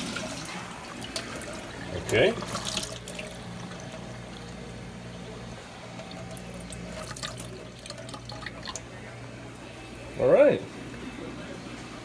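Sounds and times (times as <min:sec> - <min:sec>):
water flowing into sink: 0:00.0 - 0:10.0
drain pump humming: 0:00.0 - 0:12.0.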